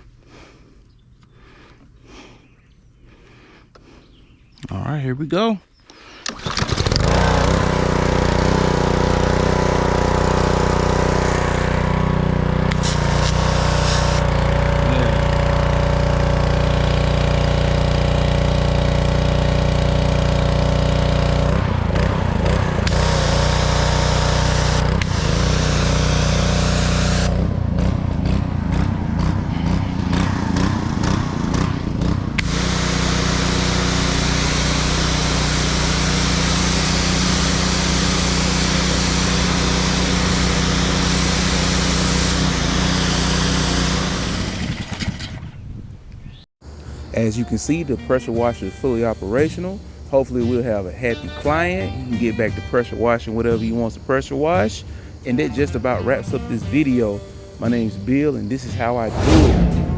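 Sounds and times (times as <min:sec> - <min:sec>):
pressure washer engine running: 0:06.3 - 0:45.0, 0:47.2 - 0:59.9.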